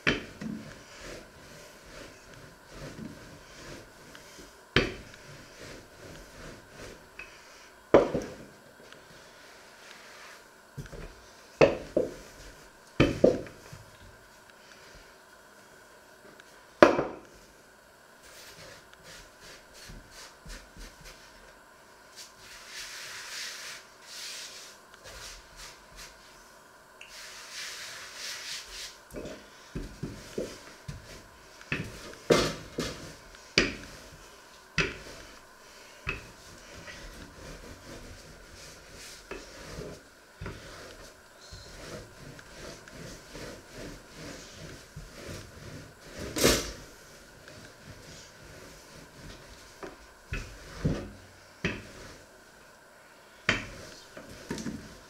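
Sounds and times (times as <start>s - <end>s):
rolling pin rolling over dough: 0.0s - 15.1s, 18.2s - 26.4s, 27.1s - 55.0s.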